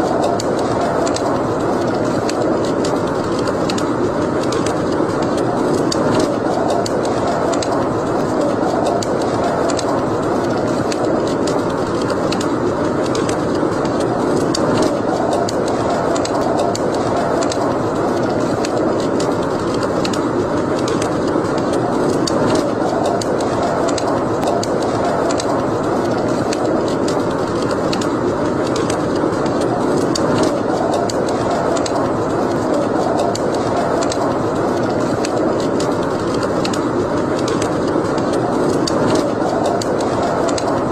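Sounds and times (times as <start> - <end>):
fire crackling and popping: 0.0 - 40.9
wood fire burning: 0.0 - 40.9.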